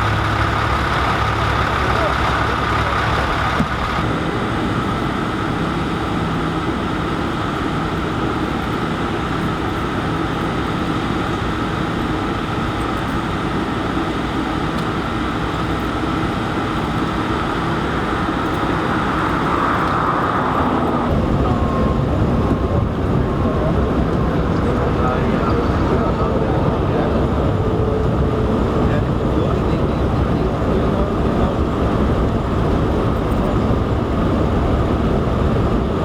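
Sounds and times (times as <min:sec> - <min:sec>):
freeway traffic rumble: 0:00.0 - 0:36.0.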